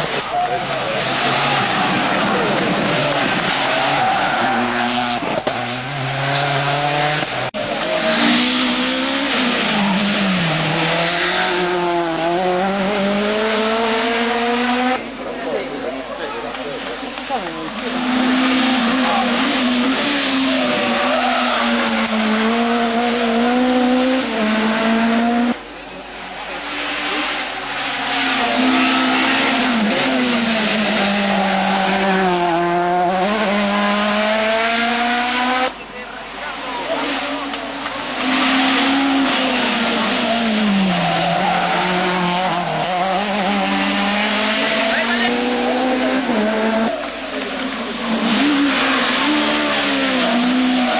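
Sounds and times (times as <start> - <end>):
car engine at high revs: 0.0 - 15.3, 16.9 - 50.9
mechanical and road noise: 0.0 - 50.9.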